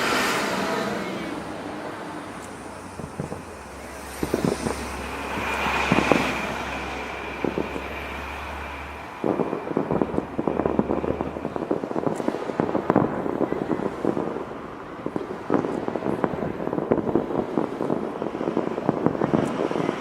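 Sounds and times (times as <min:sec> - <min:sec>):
dense rapid crackling: 0:00.0 - 0:20.0
firework bangs: 0:00.0 - 0:20.0
firework whistle: 0:00.0 - 0:20.0.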